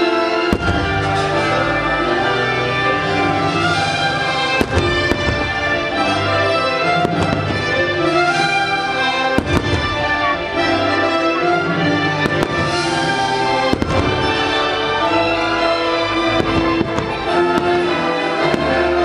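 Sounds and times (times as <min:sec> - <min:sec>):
fireworks bursting with bangs: 0:00.0 - 0:19.0
orchestral music: 0:00.0 - 0:19.0.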